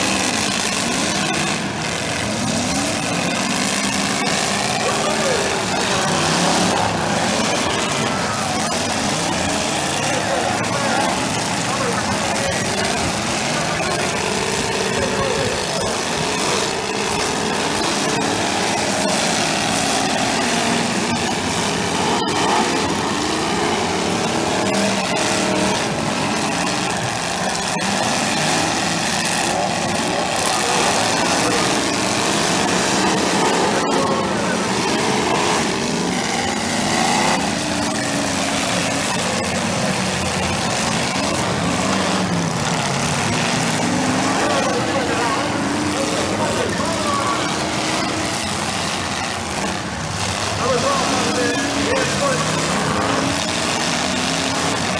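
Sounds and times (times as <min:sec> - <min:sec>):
car engines revving: 0:00.0 - 0:54.9.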